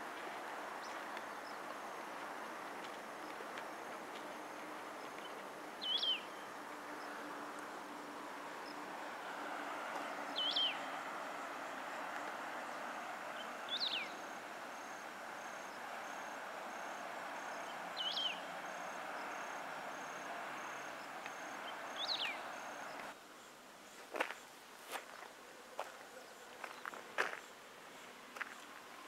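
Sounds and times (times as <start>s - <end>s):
insect chorus: 0.6s - 29.0s.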